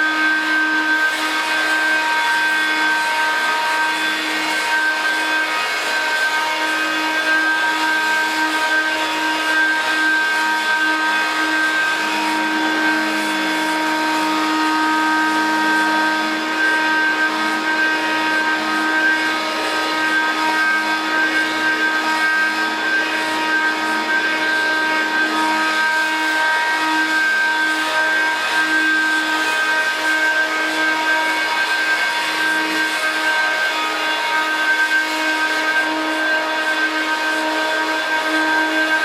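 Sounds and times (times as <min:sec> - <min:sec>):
vacuum cleaner motor whine: 0:00.0 - 0:39.0.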